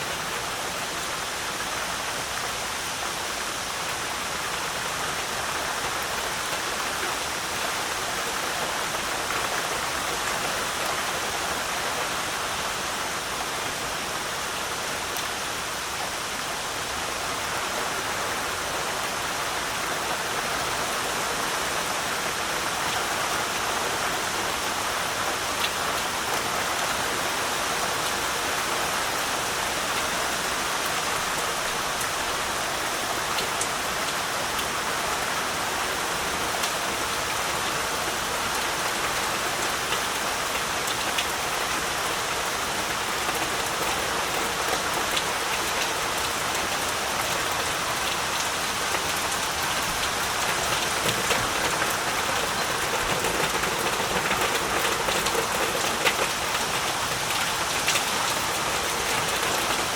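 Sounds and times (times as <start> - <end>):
heavy rain falling: 0.0 - 59.9
raindrops ticking on surfaces: 0.0 - 59.9.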